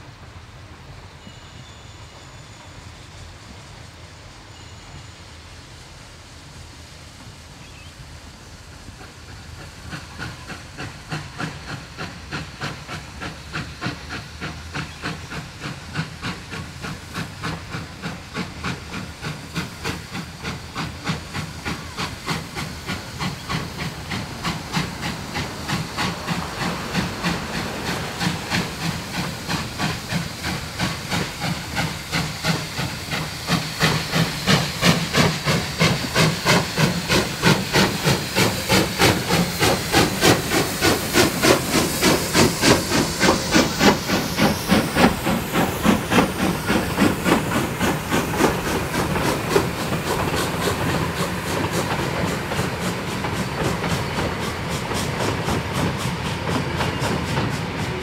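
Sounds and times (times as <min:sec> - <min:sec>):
hissing steam: 0:00.0 - 0:58.0
steam locomotive chuffing: 0:00.0 - 0:58.0.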